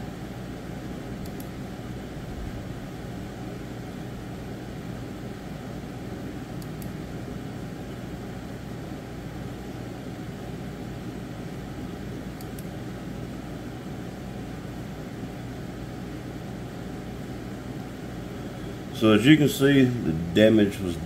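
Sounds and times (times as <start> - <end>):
machine-like room hum and hiss: 0.0 - 21.0.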